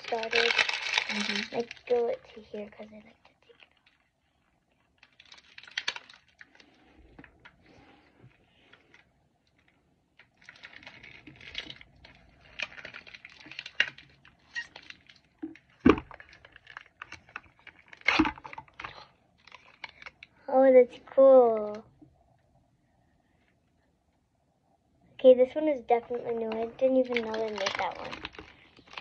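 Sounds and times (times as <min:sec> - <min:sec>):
plastic wrapping crinkling: 0:00.0 - 0:20.4, 0:25.9 - 0:29.0.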